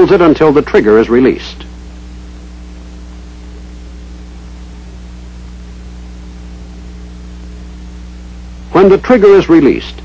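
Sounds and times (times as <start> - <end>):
low mains hum: 0.0 - 10.0
steady hiss: 0.0 - 10.0.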